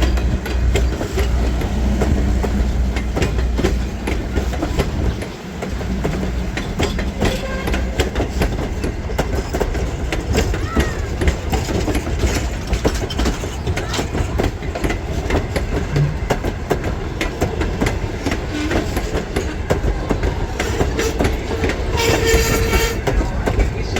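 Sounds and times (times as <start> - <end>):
train rumble: 0.0 - 23.9
train wheels clicking over rail joints: 0.0 - 23.9.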